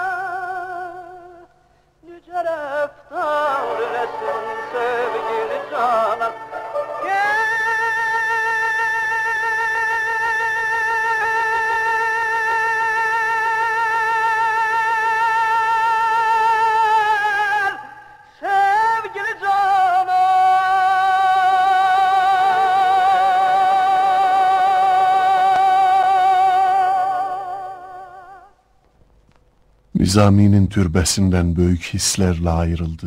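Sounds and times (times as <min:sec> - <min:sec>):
person singing with vibrato: 0:00.0 - 0:28.6.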